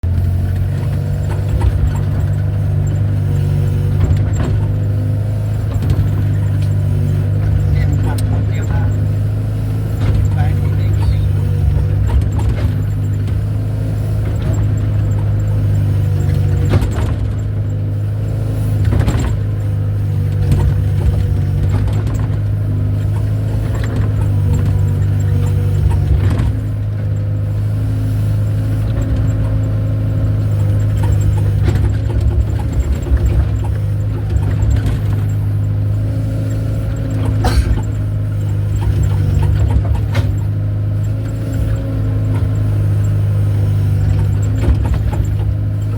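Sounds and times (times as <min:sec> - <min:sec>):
excavator engine droning: 0:00.0 - 0:45.9.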